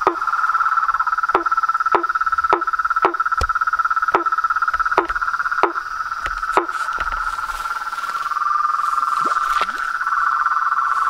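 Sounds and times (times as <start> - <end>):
frog calls dropping in pitch: 0.0 - 11.0
frog pulsing trill: 0.0 - 11.0.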